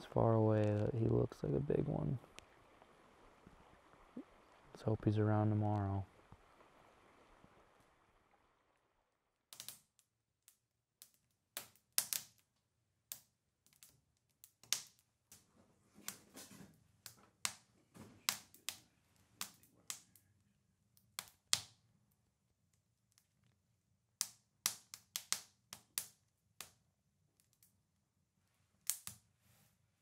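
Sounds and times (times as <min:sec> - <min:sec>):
wood fire crackling: 0:00.0 - 0:29.4.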